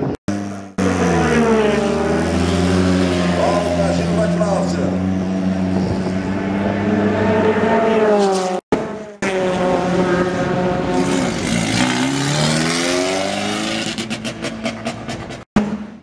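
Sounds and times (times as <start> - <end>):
race car engine accelerating: 0.3 - 16.0
race car passing: 0.3 - 16.0.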